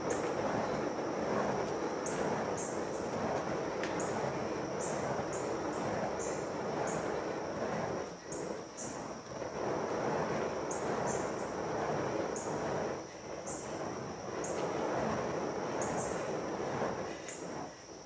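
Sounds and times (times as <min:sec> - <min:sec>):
fire hoop whooshing: 0:00.0 - 0:18.0
high insect trill: 0:00.0 - 0:18.0.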